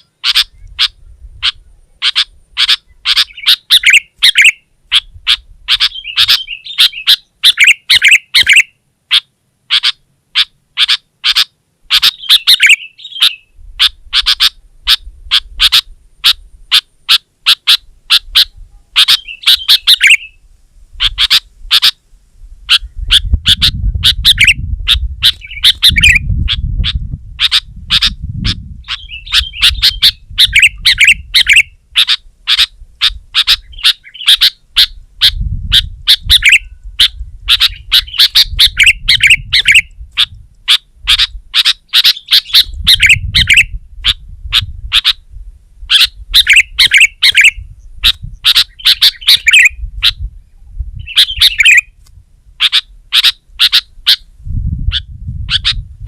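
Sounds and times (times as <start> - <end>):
bird singing chattering notes: 0.0 - 20.4, 22.7 - 45.2, 45.9 - 50.3, 51.0 - 52.0.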